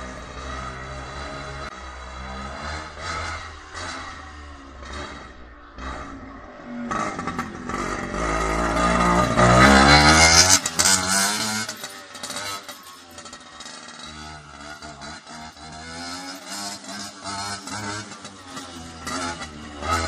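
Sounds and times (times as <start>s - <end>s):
motor scooter passing by: 0.0s - 20.0s.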